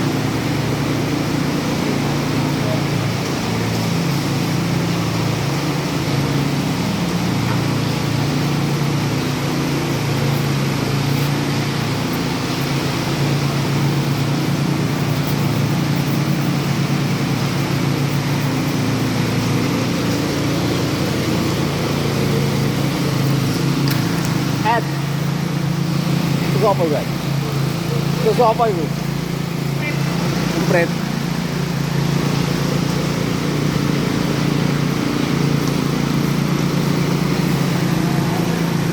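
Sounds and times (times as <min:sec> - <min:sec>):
power trowel engine droning: 0:00.0 - 0:38.9.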